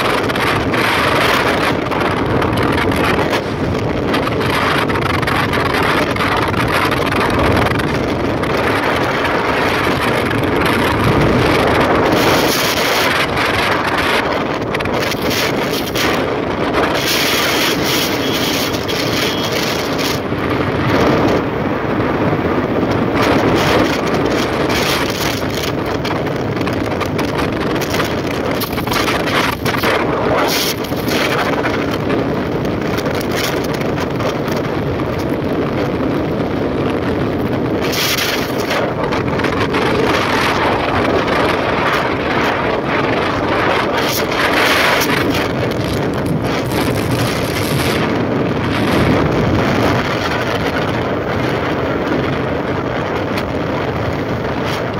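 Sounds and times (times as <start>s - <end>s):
motorcycle engine and tyre noise: 0.0s - 54.9s
wind buffeting microphone: 0.0s - 54.9s.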